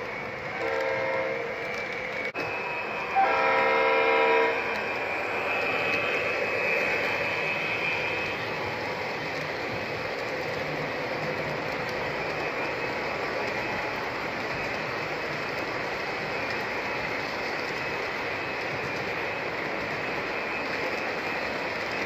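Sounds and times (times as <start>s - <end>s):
model train wheels on rails: 0.0s - 22.0s.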